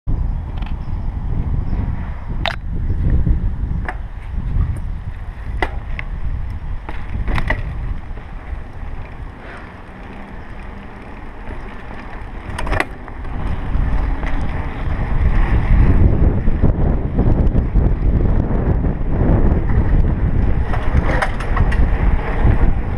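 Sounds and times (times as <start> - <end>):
bicycle tyre rumble: 0.1 - 22.9
wind buffeting microphone: 0.1 - 22.9
bike clicks and rattles: 0.4 - 1.0, 2.4 - 22.9.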